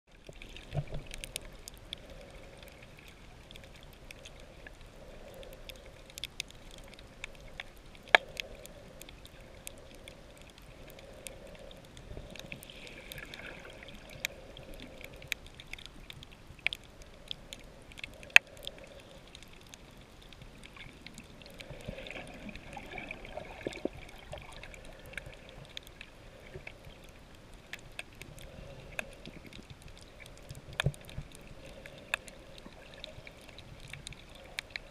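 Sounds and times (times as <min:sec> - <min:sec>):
muffled underwater wash: 0:00.1 - 0:34.9
sharp underwater clicks: 0:00.2 - 0:34.9.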